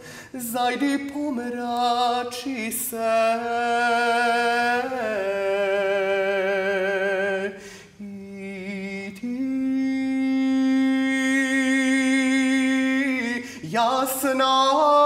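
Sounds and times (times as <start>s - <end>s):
man singing folk song: 0.0s - 15.0s.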